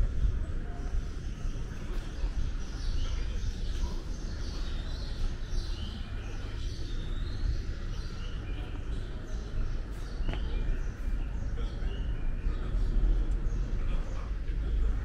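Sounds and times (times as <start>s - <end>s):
city ambience rumble: 0.0s - 15.0s
birds chirping: 0.7s - 15.0s.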